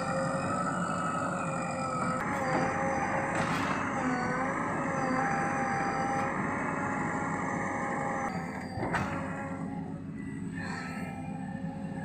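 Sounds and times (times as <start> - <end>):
diesel engine under load: 0.0 - 12.0
hydraulic whine: 0.0 - 12.0.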